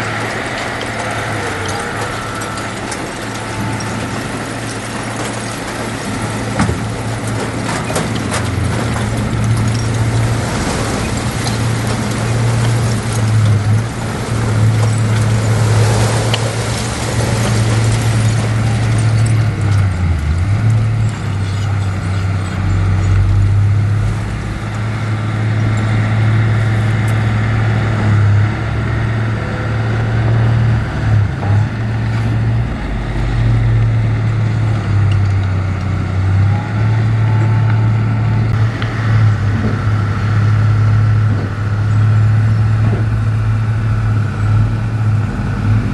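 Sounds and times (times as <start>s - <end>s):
heavy diesel engine droning: 0.0s - 45.9s.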